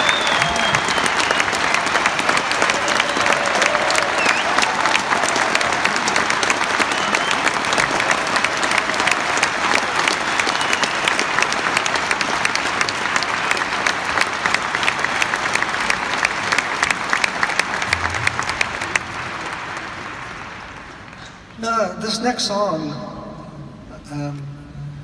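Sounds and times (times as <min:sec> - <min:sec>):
audience applauding: 0:00.0 - 0:21.5.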